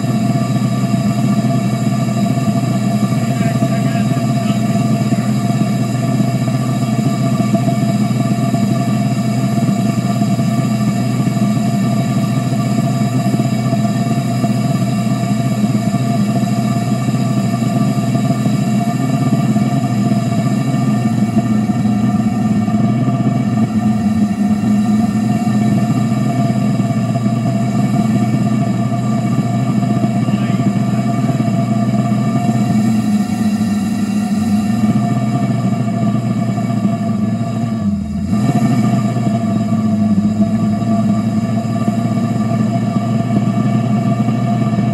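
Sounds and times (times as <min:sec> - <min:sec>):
burner roaring: 0:00.0 - 0:44.9
steady hum: 0:00.0 - 0:44.9.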